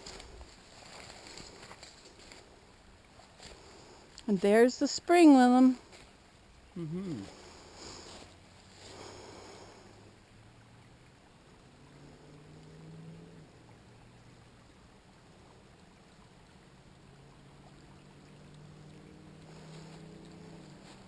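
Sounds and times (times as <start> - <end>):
stream trickling: 0.0 - 21.0.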